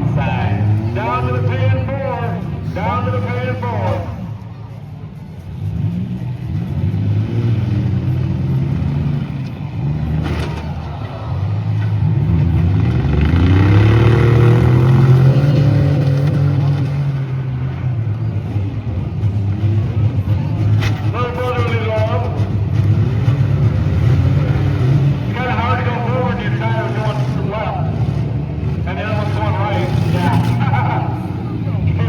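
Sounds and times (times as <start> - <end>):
minivan engines revving hard: 0.0 - 32.0.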